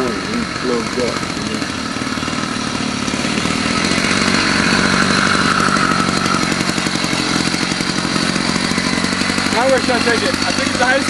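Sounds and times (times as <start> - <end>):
motorized bicycle engine running: 0.0 - 11.0.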